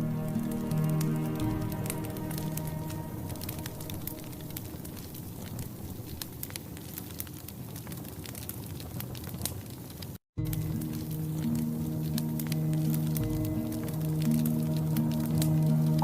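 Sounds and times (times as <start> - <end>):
wood fire crackling in a stove: 0.0 - 16.0.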